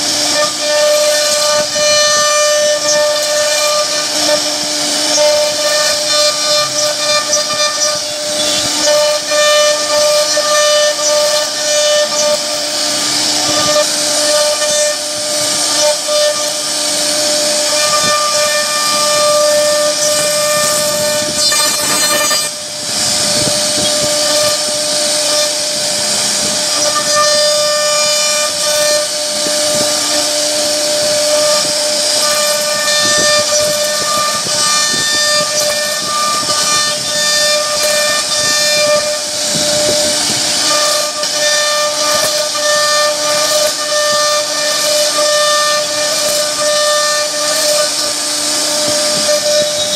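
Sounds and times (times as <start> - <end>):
bit cutting wood hiss: 0.0 - 49.9
router spindle whine: 0.0 - 49.9.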